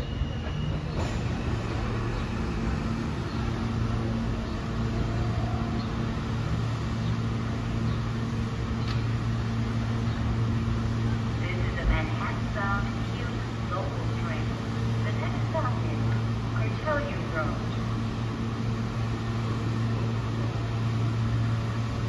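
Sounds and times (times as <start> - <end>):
subway train rolling to a stop: 0.0 - 22.0.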